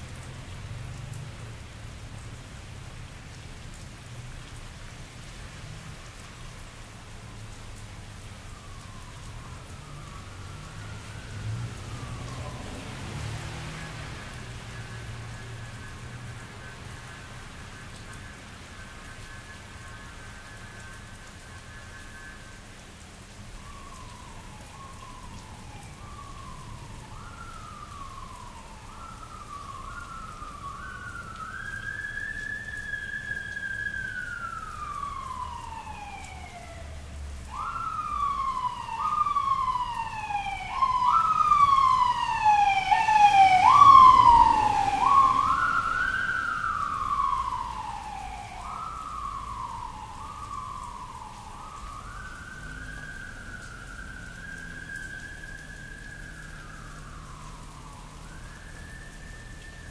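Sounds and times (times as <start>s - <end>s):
emergency vehicle siren: 0.0s - 59.9s
steady rain falling: 0.0s - 59.9s.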